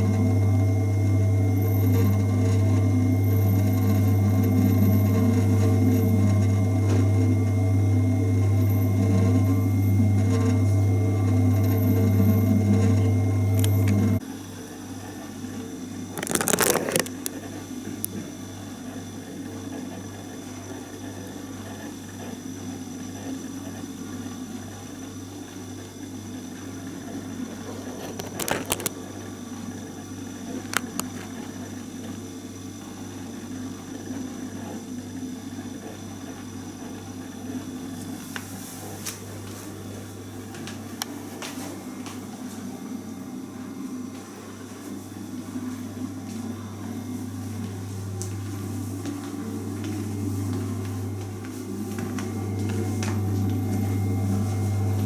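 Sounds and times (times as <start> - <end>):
freezer pulsing hum: 0.0 - 55.0.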